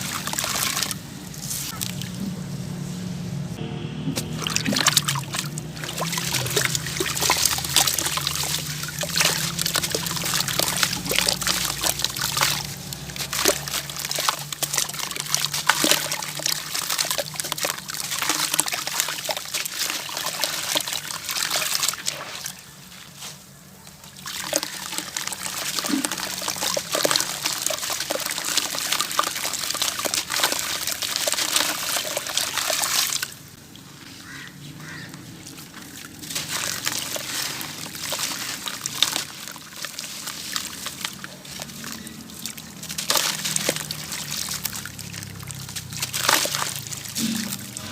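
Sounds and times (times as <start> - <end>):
water trickling: 0.0 - 2.4, 4.1 - 23.0, 23.9 - 47.9
crumbling pieces fizzing in water: 4.4 - 22.6, 24.2 - 33.4, 35.6 - 47.9.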